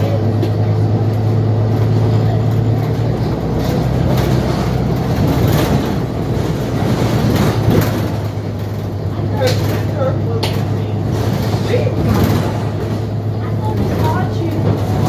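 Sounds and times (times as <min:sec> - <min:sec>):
bus drivetrain drone: 0:00.0 - 0:15.0.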